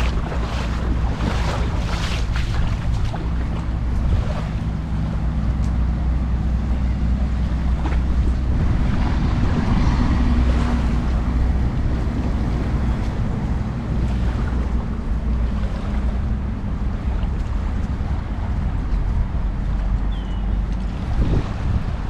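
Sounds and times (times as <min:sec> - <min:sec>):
surf washing on beach: 0:00.0 - 0:20.1
wind rumbling on microphone: 0:00.0 - 0:22.0.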